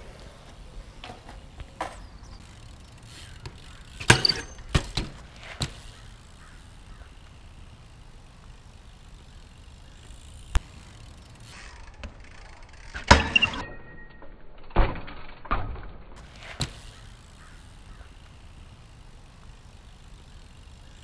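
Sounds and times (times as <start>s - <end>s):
bike clattering on concrete: 0.0s - 7.8s, 9.6s - 19.0s.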